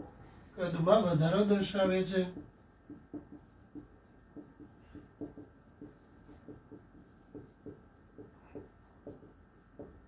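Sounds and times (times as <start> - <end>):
marker writing on whiteboard: 0.0 - 10.0.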